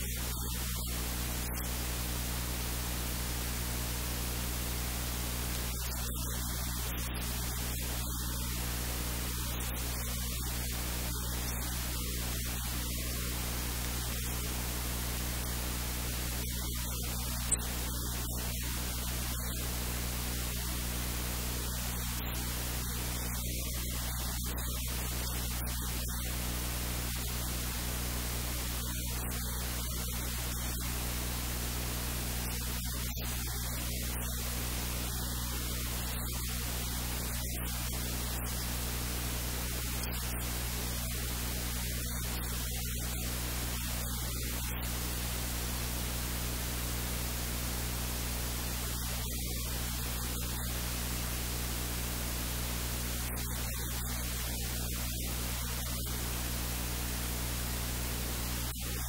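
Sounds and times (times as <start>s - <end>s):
electrical hiss: 0.0s - 59.0s
low mains hum: 0.0s - 59.0s.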